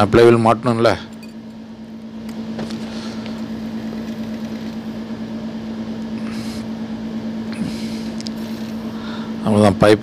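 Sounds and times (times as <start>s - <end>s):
machine hum: 0.0s - 10.0s
noisy hiss: 0.0s - 10.0s.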